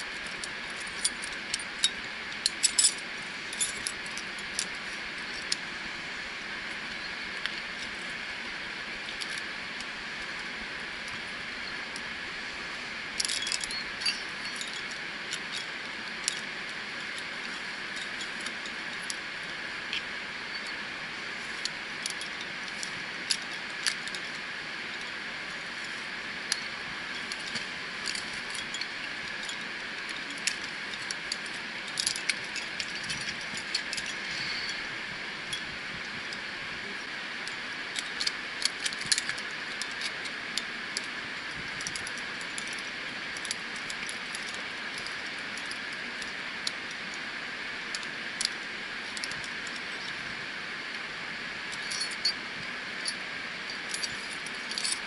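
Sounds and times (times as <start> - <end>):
metal climbing gear clinking: 0.0 - 5.7, 6.6 - 12.2, 12.8 - 55.0
steady hiss: 0.0 - 55.0.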